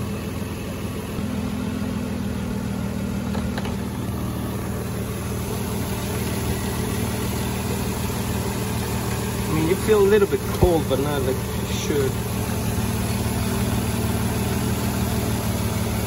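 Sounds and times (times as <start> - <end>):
minivan engine idling: 0.0 - 16.0.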